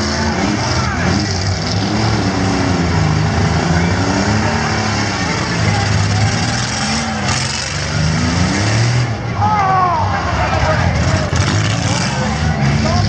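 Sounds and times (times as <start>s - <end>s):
crowd din: 0.0s - 13.0s
truck engines revving: 0.0s - 13.0s.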